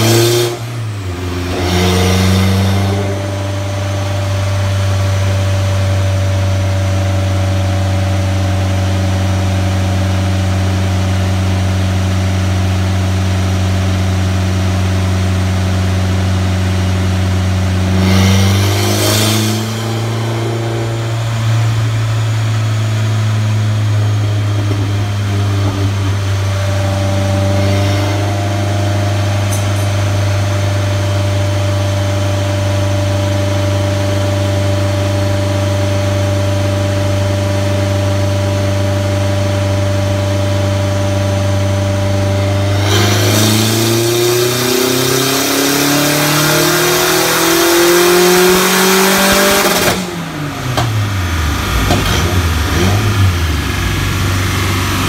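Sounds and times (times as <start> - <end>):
turbocharged car engine on dyno: 0.0 - 55.0.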